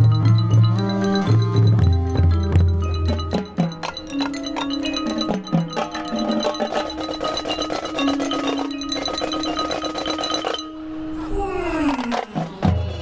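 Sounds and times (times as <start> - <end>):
marimbas and glockenspiel playing: 0.0 - 11.0.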